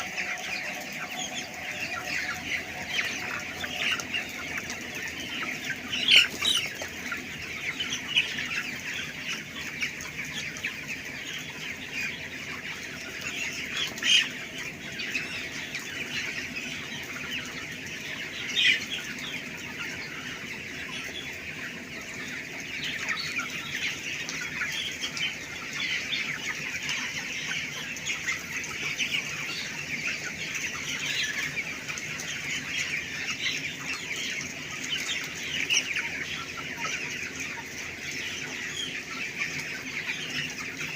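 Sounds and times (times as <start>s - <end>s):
chickens cheeping and clucking: 0.0s - 40.9s.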